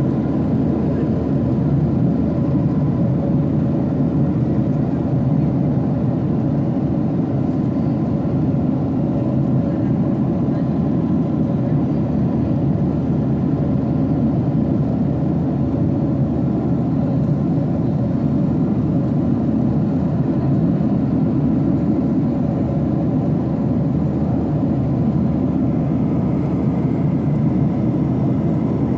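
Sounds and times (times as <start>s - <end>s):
aircraft cabin engine drone: 0.0s - 28.9s.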